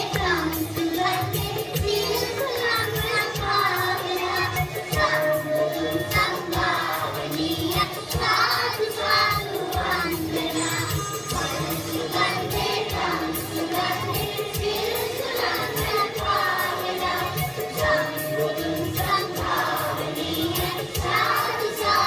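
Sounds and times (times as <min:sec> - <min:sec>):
children's choir singing in unison: 0:00.0 - 0:22.0.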